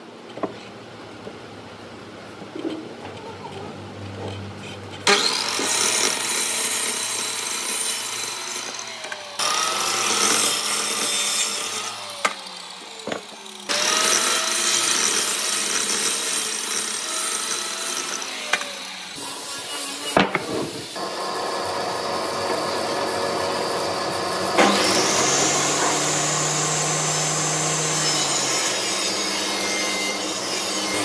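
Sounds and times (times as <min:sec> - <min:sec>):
power tool cutting wood: 0:05.0 - 0:31.0.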